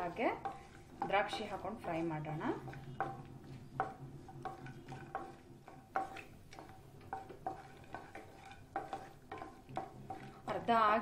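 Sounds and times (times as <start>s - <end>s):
spatula tapping and scraping pan: 0.0s - 11.0s.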